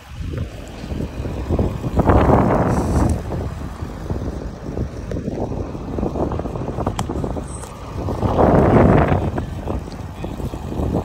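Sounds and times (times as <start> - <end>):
truck engine rumbling: 0.0 - 11.0
tyres crackling over stubble: 0.0 - 11.0.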